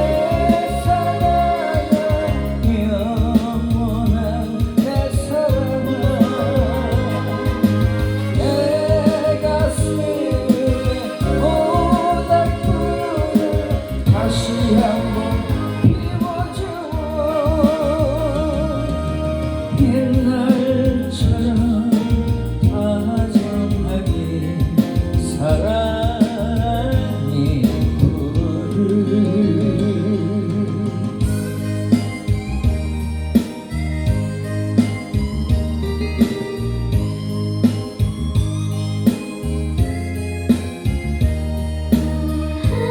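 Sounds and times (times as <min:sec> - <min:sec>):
band accompaniment: 0:00.0 - 0:42.9
singer with vibrato: 0:00.0 - 0:42.9.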